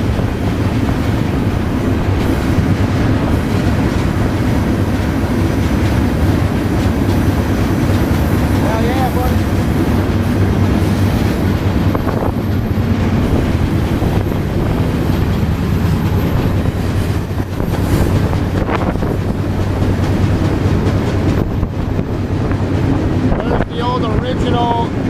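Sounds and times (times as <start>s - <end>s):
sharp train clanks: 0.0s - 25.0s
train wheels rumbling on rails: 0.0s - 25.0s.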